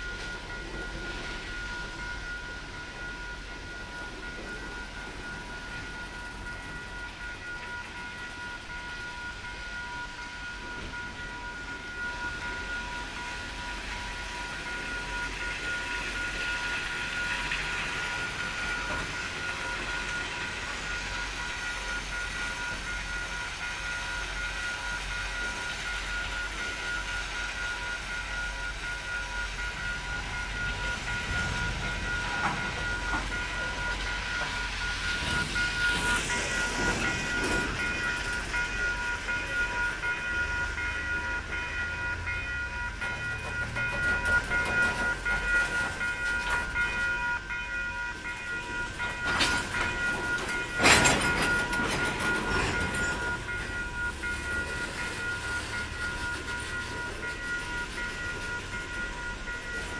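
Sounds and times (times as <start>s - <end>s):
high ringing tone: 0.0s - 59.9s
train wheels clattering on rails: 0.0s - 59.9s.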